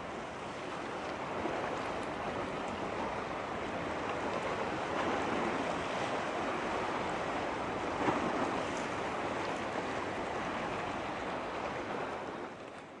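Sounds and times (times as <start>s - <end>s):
choppy sea water: 0.0s - 13.0s.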